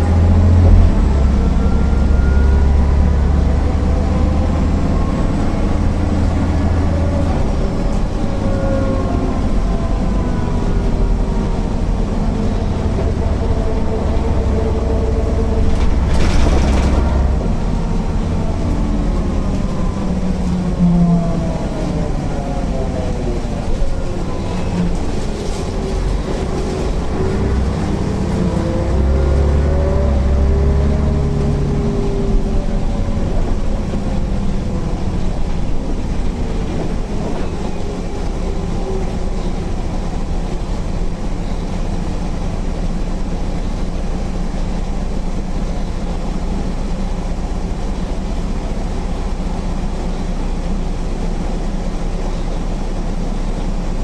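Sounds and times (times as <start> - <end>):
bus diesel engine and gearbox whine: 0.0 - 54.0.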